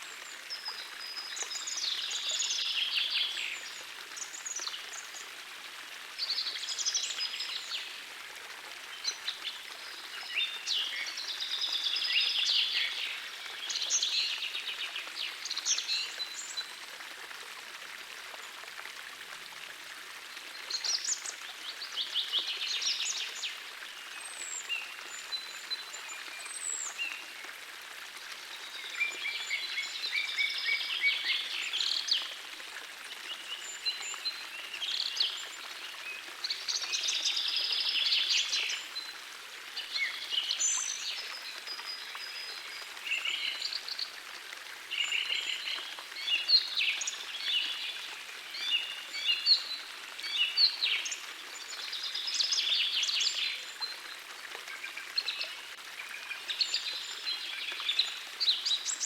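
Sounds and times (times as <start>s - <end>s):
forest stream rushing: 0.0s - 59.0s.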